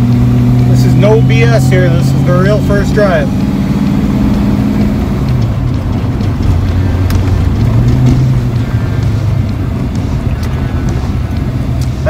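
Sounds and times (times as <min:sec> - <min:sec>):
car engine droning in cabin: 0:00.0 - 0:12.0.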